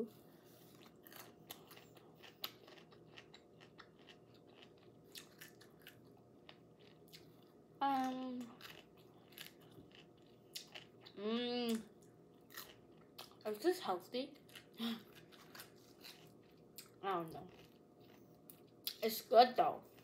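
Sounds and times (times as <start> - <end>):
crunchy chewing: 0.5 - 13.4, 14.4 - 19.0.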